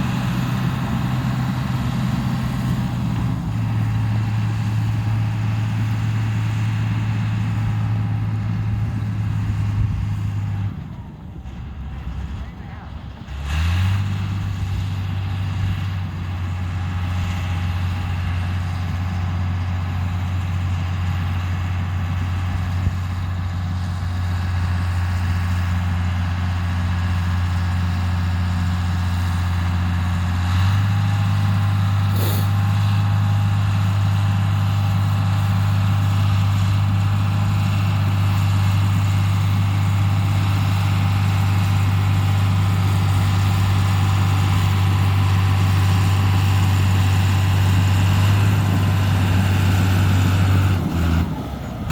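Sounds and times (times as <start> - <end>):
bulldozer diesel engine: 0.0 - 51.9.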